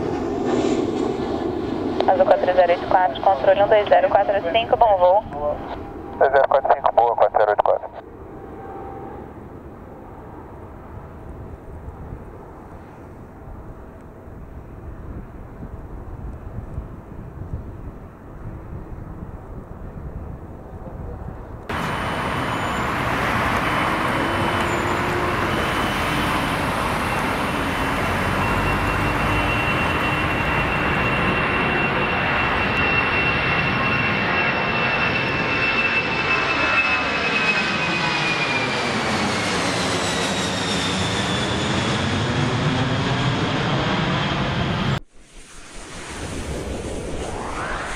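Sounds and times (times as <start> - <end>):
jet engines roaring overhead: 0.0 - 47.9.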